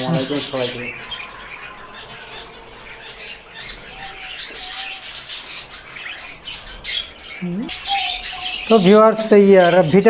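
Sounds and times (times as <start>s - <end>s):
pet birds chirping: 0.0s - 10.0s.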